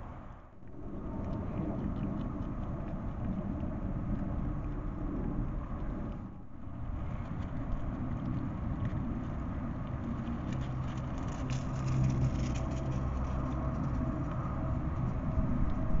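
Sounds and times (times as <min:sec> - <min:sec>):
steady low rumble: 0:00.0 - 0:16.0
hedgehogs eating crackling clicks: 0:00.8 - 0:15.8.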